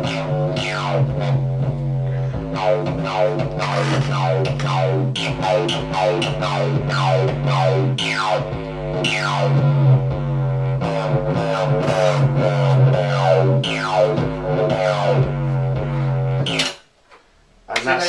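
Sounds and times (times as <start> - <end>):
distorted synth bass line: 0.0 - 16.8.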